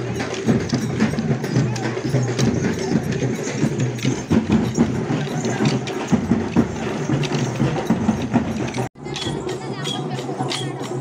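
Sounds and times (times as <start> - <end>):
percussion din: 0.0 - 11.0
wooden sticks clacking: 0.0 - 11.0.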